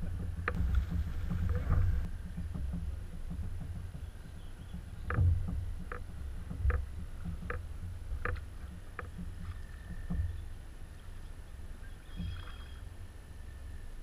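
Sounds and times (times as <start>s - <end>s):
canoe paddle strokes: 0.0s - 13.1s
low rumble: 0.0s - 14.0s.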